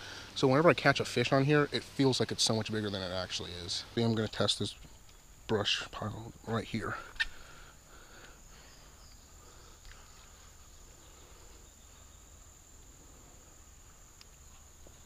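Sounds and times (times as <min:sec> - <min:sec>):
high-pitched insect chorus: 0:00.0 - 0:15.0
low background hiss: 0:00.0 - 0:15.0.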